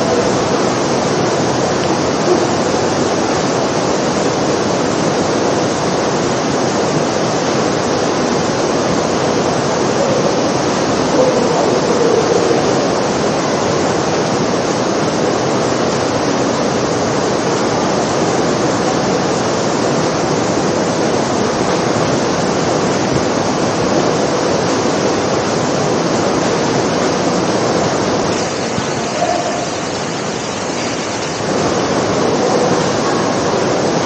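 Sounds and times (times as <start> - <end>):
heavy rain pouring onto floor: 0.0 - 34.0.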